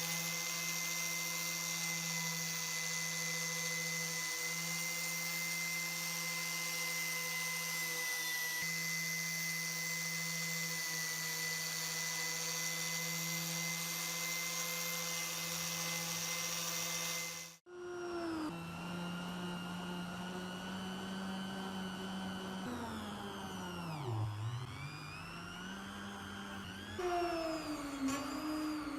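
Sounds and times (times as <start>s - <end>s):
power tool motor whine: 0.0s - 28.9s.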